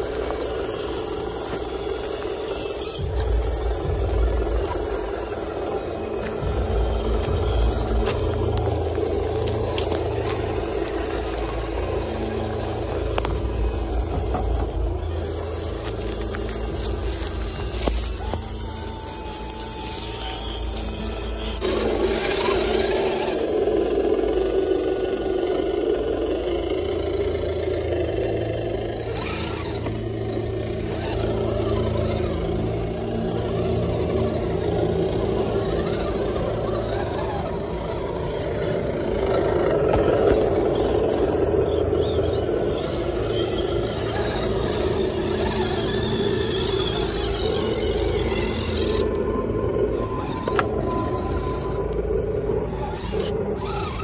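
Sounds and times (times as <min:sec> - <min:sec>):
rc truck motors whirring: 0:00.0 - 0:54.0
thin high whine: 0:00.0 - 0:54.0
wheels clicking on rocks: 0:00.0 - 0:54.0.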